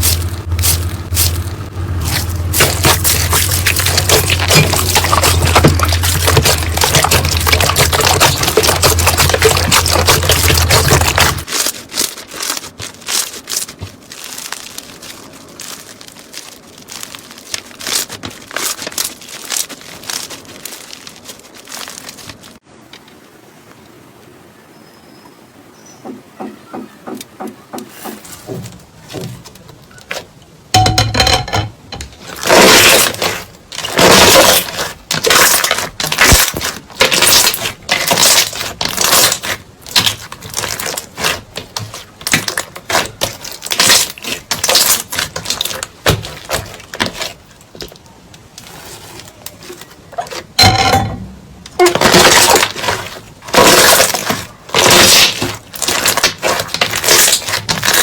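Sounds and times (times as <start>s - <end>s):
slime crackling and popping: 0.0s - 22.6s, 32.0s - 58.0s.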